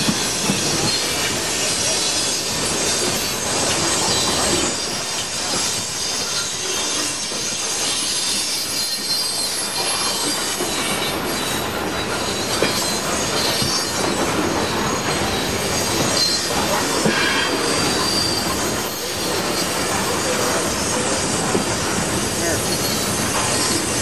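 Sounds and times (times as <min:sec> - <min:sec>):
train cars rumbling and clattering: 0:00.0 - 0:24.0
wheel squeal: 0:00.0 - 0:24.0.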